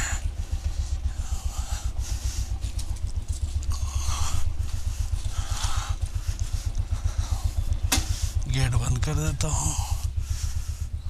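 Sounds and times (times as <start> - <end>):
motorcycle engine thumping: 0.0 - 11.0.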